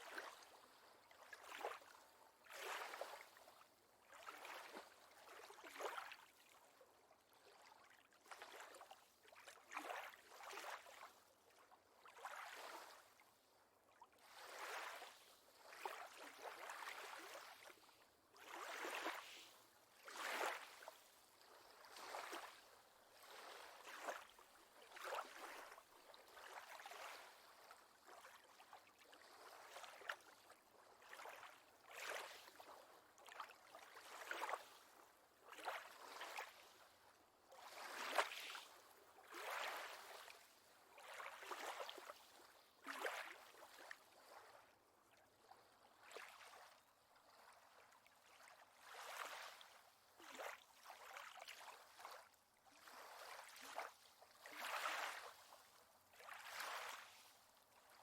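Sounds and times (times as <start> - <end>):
faint lake water lapping: 0.0 - 58.0.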